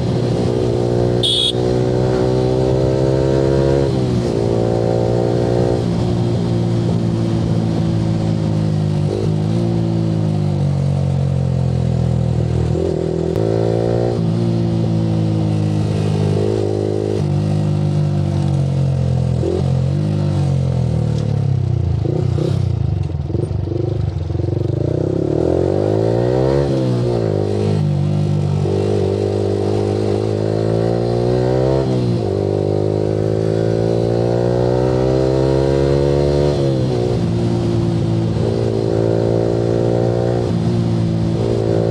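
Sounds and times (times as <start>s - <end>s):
motorcycle engine revving through gears: 0.0s - 41.9s.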